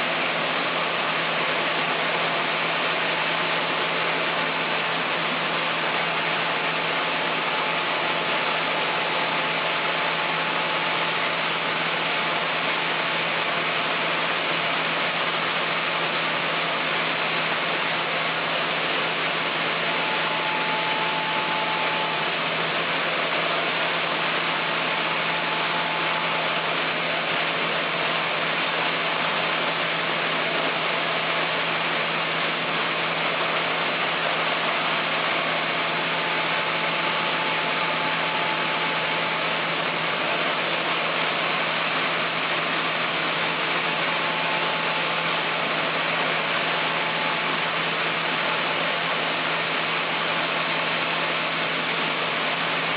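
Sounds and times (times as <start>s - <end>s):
faint steady whine: 0.0s - 52.9s
sawmill machinery running: 0.0s - 52.9s.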